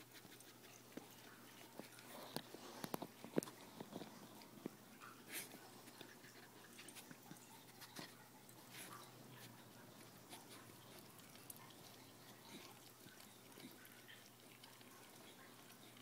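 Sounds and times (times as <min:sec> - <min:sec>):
dog licking: 0:00.0 - 0:16.0
low steady hum: 0:00.0 - 0:16.0.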